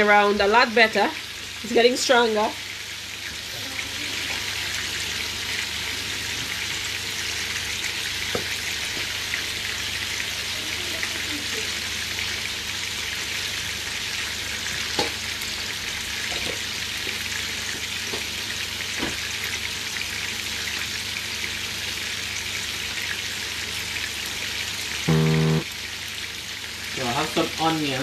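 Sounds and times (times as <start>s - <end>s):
chicken sizzling in oil: 0.0s - 28.0s.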